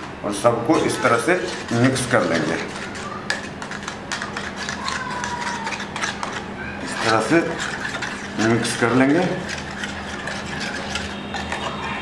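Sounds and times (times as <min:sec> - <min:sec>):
metal spoon scraping pan: 0:00.0 - 0:12.0.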